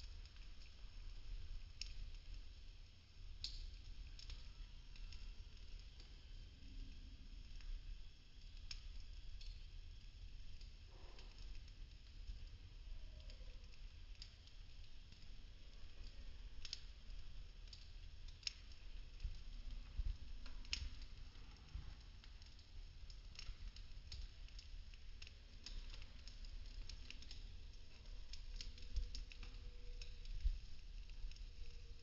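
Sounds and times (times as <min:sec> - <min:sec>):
low rumble of flame: 0:00.0 - 0:32.0
wood crackling and popping: 0:00.0 - 0:32.0.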